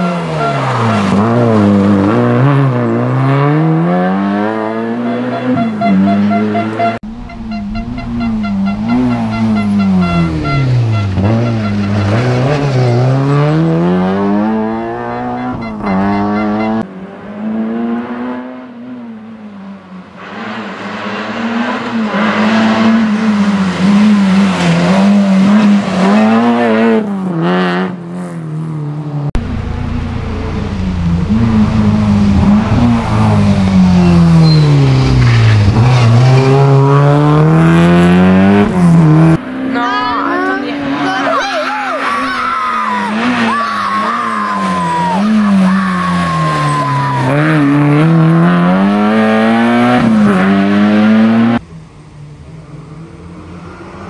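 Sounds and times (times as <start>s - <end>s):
rally car engine revving: 0.0s - 51.7s.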